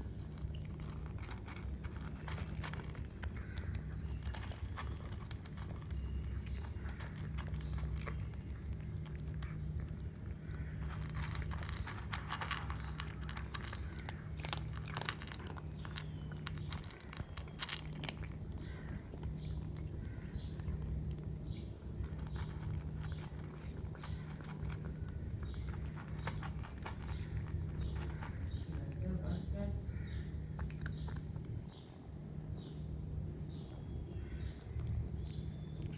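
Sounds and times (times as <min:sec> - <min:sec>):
cat crunching food: 0:00.0 - 0:35.9.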